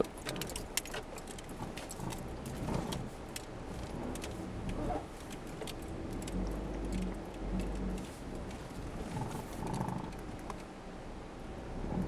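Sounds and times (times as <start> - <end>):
light ticks and rattles: 0.0 - 10.7
car cabin engine and road hum: 0.0 - 12.0.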